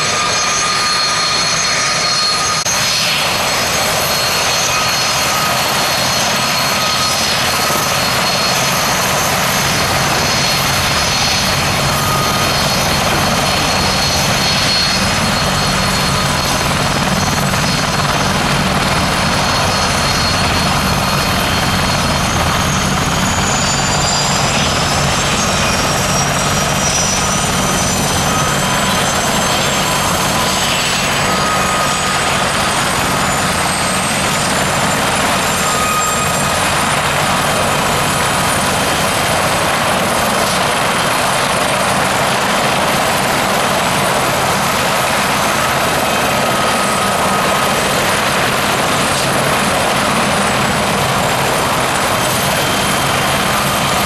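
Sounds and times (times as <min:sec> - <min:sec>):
helicopter rotor noise: 0:00.0 - 0:54.0
high turbine whine: 0:00.0 - 0:54.0.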